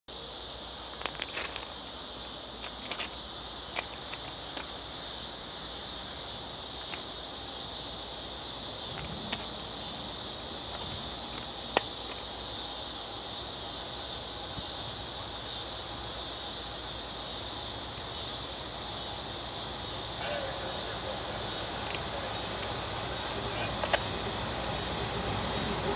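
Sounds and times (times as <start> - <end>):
insects chirring: 0.1 - 25.9.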